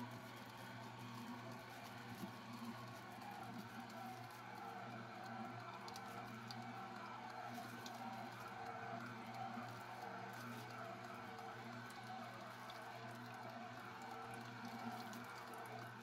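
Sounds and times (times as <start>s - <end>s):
juicer motor humming: 0.0s - 16.0s.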